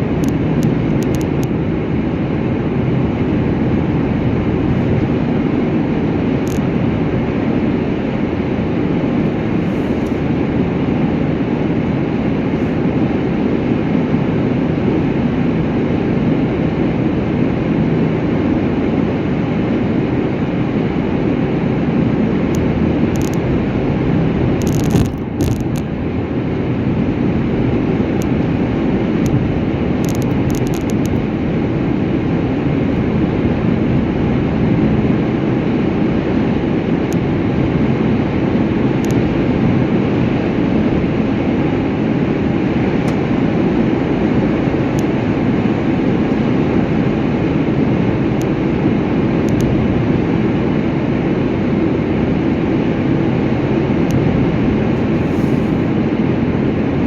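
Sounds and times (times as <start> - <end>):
moving vehicle rumble: 0.0 - 56.5.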